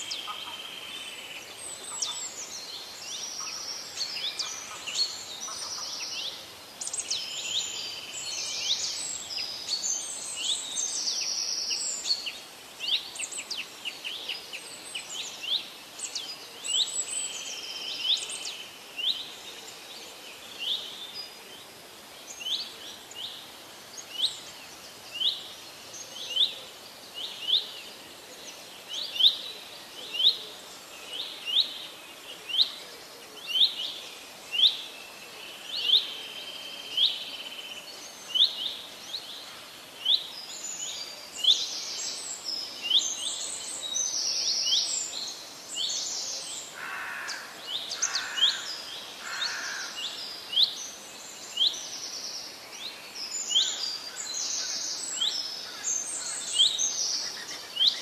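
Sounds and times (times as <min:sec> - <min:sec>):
birds singing and chirping: 0:00.0 - 0:21.6, 0:22.2 - 0:58.0
faint steady hiss: 0:00.0 - 0:58.0.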